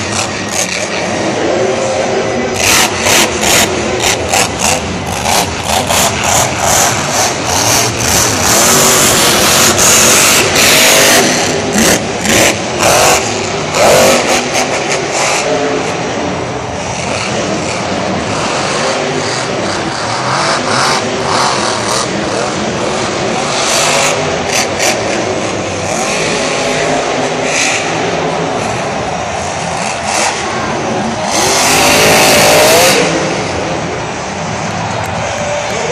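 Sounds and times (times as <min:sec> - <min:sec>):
truck engine revving hard: 0:00.0 - 0:35.9.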